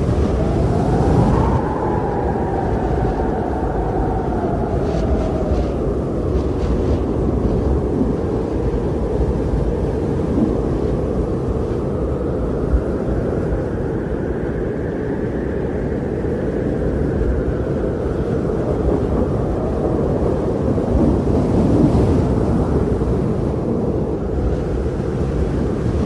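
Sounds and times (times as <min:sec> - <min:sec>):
strong blizzard wind: 0:00.0 - 0:26.0.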